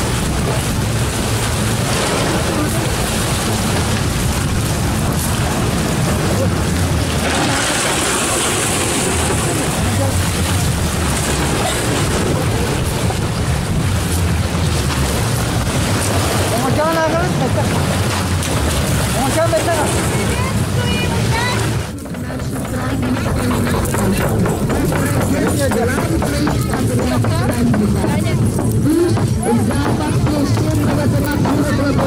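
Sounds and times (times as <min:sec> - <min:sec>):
outboard motors humming: 0:00.0 - 0:32.0
water noise: 0:00.0 - 0:32.0
wind on microphone: 0:00.0 - 0:32.0.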